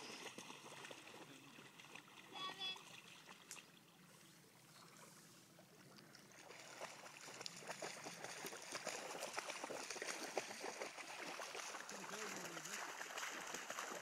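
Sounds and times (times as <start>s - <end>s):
water splashing around wading person: 0.0s - 14.0s.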